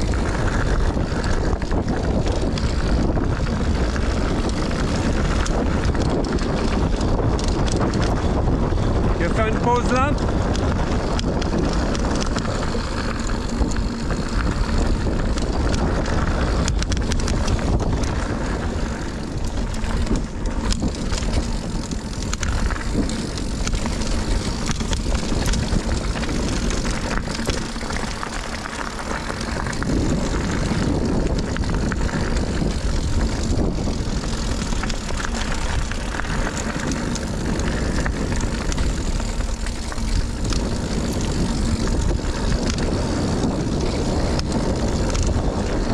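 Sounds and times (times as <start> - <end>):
bike chain and frame rattling: 0.0 - 45.9
tyres rolling on dirt: 0.0 - 45.9
wind buffeting microphone: 0.0 - 45.9.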